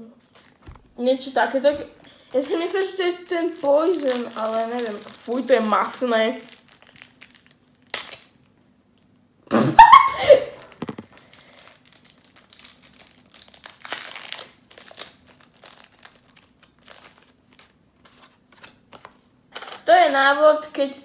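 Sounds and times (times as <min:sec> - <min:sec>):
plastic wrapping crinkling and tearing: 0:00.2 - 0:09.1, 0:10.3 - 0:19.2.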